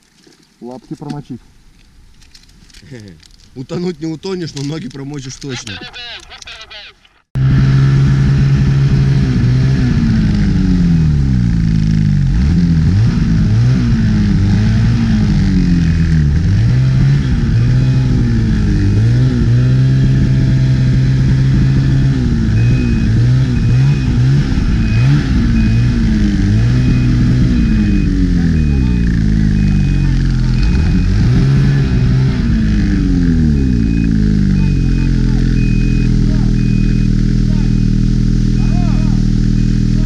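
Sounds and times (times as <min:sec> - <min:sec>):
snowmobile engine revving: 0:07.4 - 0:40.0.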